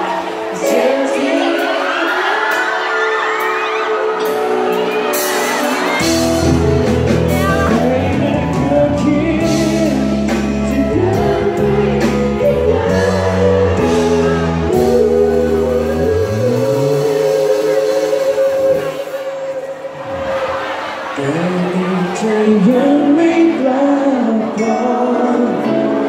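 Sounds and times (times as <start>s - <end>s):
fans shouting and screaming: 0.0s - 9.4s, 10.2s - 26.0s
person singing: 0.0s - 19.9s, 21.1s - 26.0s
live pop band playing: 0.0s - 26.0s.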